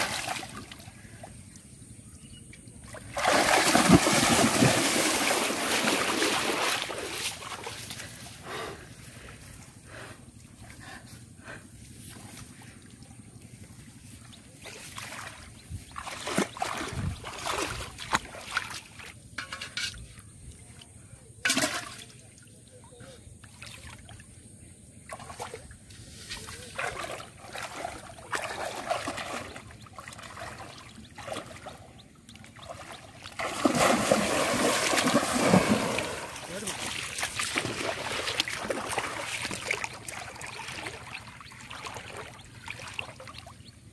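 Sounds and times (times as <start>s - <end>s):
water sloshing and splashing: 0.0s - 2.0s, 2.7s - 8.4s, 11.9s - 43.9s.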